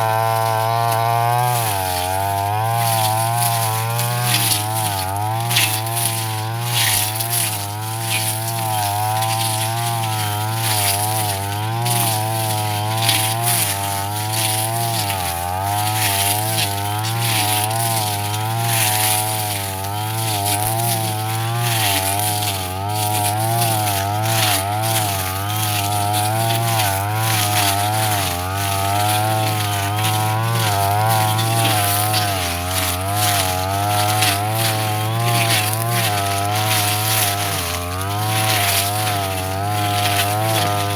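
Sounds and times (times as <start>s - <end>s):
brush cutter engine: 0.0s - 40.9s.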